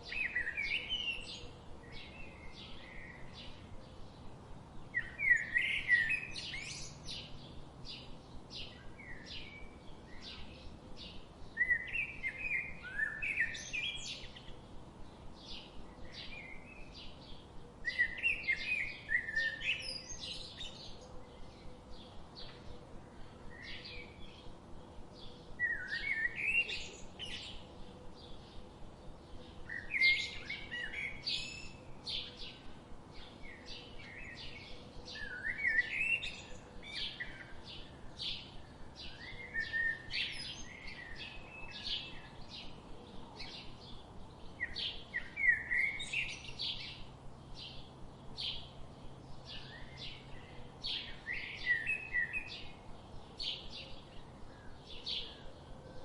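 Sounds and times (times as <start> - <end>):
quick bird song phrases: 0.0 - 56.0
songbirds chirping: 0.0 - 56.0.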